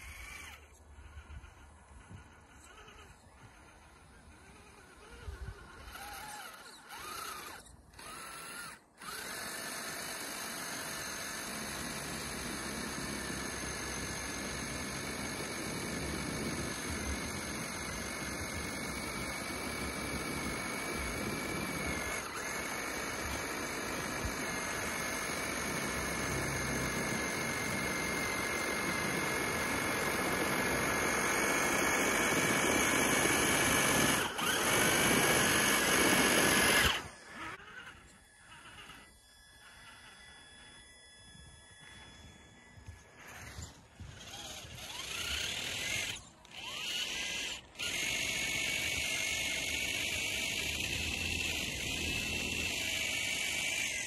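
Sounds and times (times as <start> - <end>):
rc car motor whining: 0.0 - 54.0.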